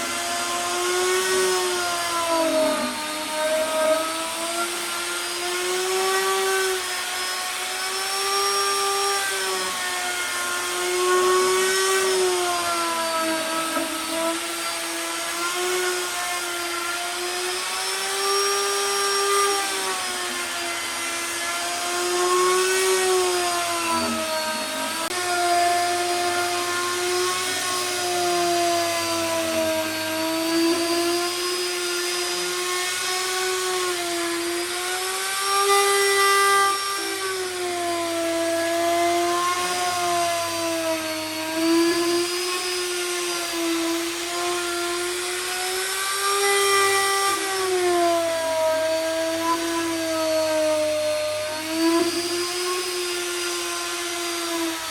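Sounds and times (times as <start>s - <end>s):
power tool motor whining: 0.0s - 54.9s.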